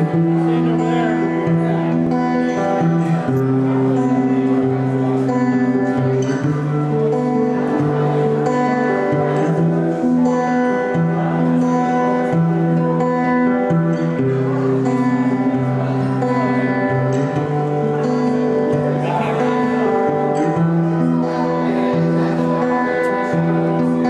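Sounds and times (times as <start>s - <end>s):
band playing live: 0.0s - 24.0s.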